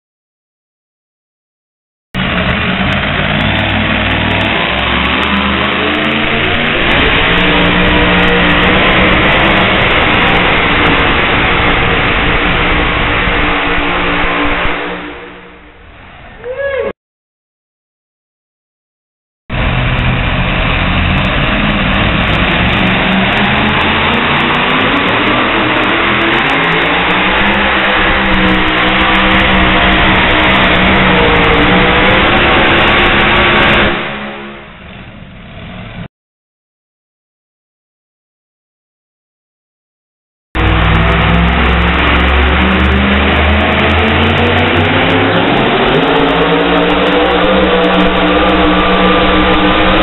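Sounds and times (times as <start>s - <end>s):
tractor engine at full throttle: 2.2s - 16.4s, 19.5s - 36.1s, 40.6s - 50.0s.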